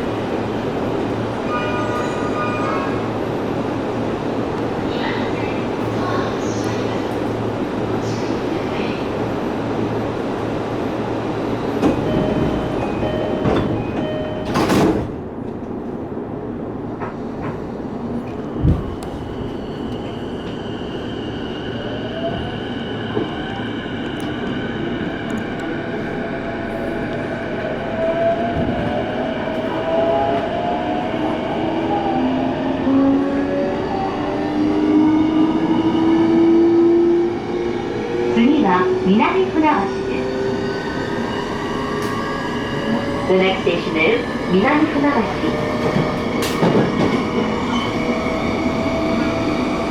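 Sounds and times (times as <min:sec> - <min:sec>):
train wheels rumbling on rails: 0:03.0 - 0:49.9.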